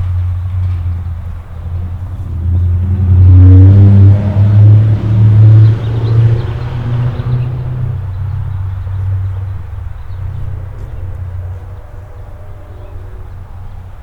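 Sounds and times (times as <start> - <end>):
car engine passing by: 0.0 - 14.0.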